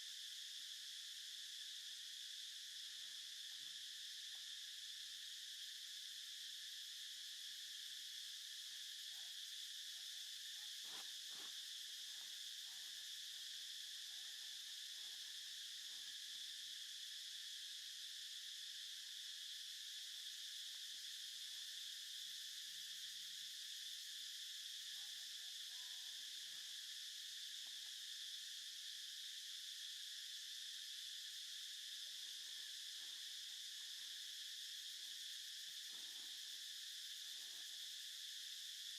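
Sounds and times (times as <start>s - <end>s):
insects chirping chorus: 0.0s - 38.9s.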